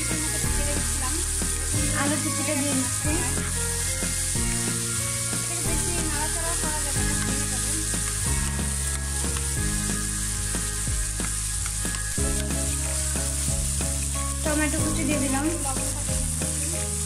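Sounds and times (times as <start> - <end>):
background music with low notes: 0.0 - 17.0
fish sizzling in a frying pan: 0.0 - 17.0.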